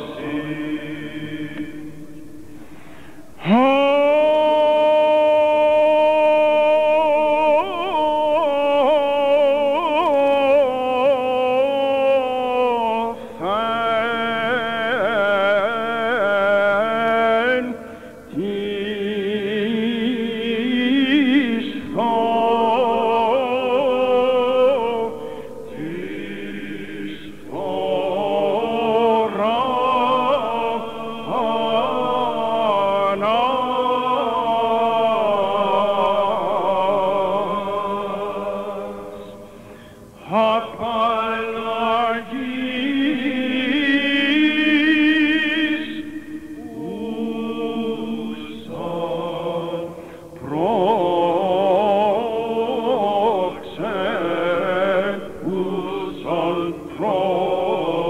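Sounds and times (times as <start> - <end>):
person chanting ornamented melody: 0.0 - 58.0
steady held drone: 0.0 - 58.0.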